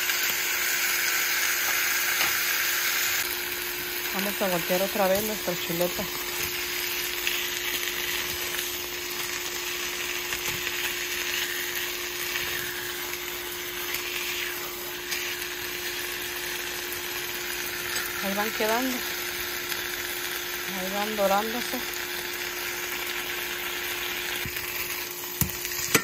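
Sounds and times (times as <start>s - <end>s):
meat sizzling in a skillet: 0.0s - 26.0s.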